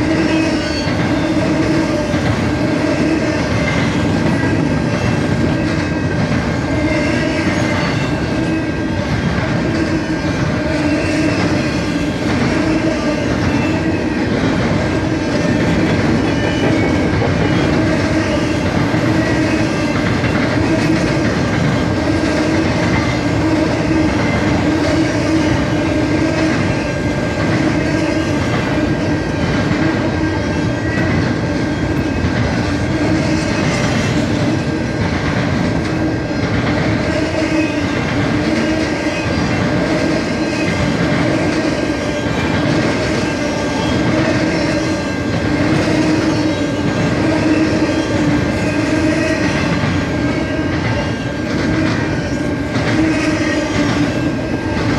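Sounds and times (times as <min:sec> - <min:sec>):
freight train cars rumbling past: 0:00.0 - 0:54.9.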